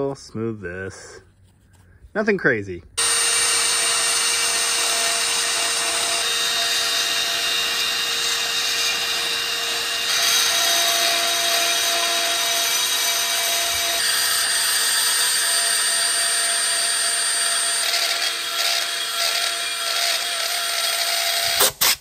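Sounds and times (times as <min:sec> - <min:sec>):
cordless drill grinding metal: 0:03.0 - 0:22.0.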